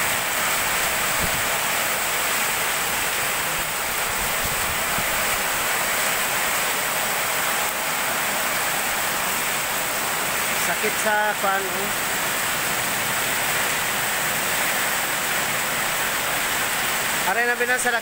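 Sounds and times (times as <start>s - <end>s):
heavy rain on street and awning: 0.0s - 18.0s.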